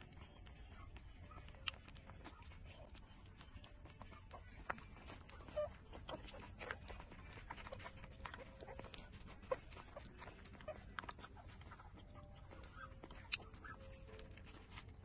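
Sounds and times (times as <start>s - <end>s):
puppies suckling: 0.0s - 15.0s.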